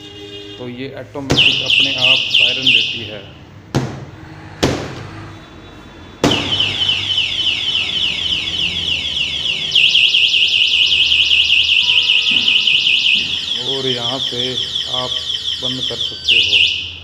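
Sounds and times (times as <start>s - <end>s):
scooter alarm siren: 1.3s - 3.4s, 5.3s - 17.0s.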